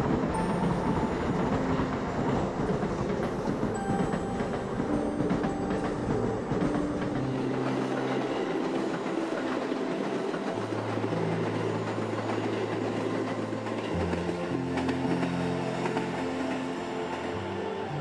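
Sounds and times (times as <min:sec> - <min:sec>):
electric train rumbling: 0:00.0 - 0:18.0
soft background music: 0:00.0 - 0:18.0.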